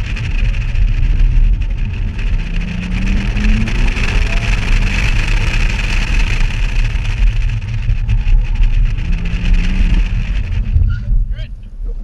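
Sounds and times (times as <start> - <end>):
car engine at speed: 0.0 - 12.0
wind rumble: 0.0 - 12.0.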